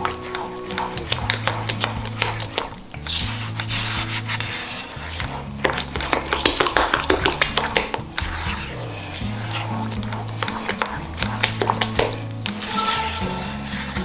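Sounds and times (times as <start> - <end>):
background music with bass line: 0.0 - 14.0
spoon stirring batter in bowl: 0.0 - 14.0.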